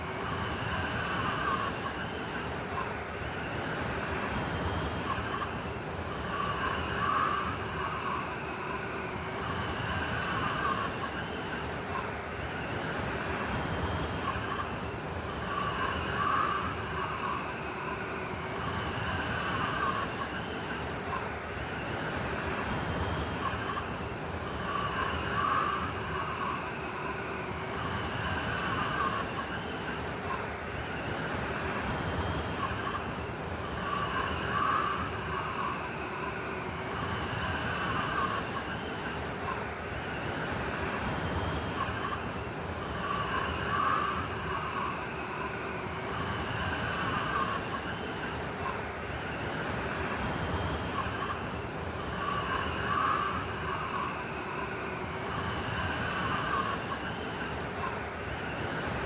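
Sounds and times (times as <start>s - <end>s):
howling blizzard wind: 0.0s - 59.0s.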